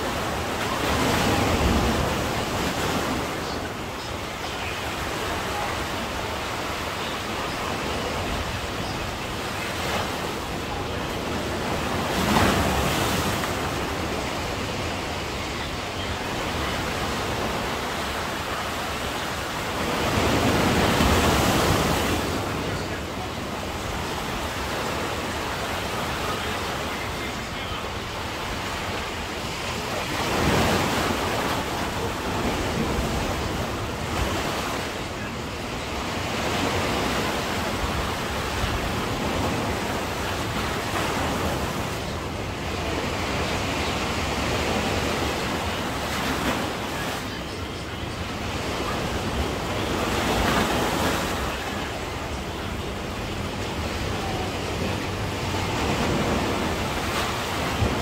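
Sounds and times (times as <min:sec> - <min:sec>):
sea waves washing onto shore: 0:00.0 - 0:58.0.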